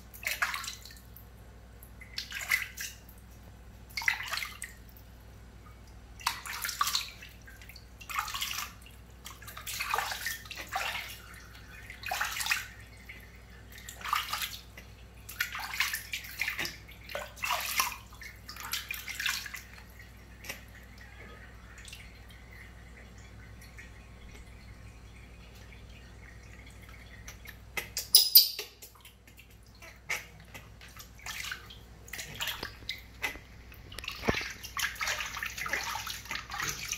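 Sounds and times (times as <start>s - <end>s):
water splashing in a tub: 0.0s - 28.0s, 28.7s - 36.9s
water dripping: 0.0s - 36.9s.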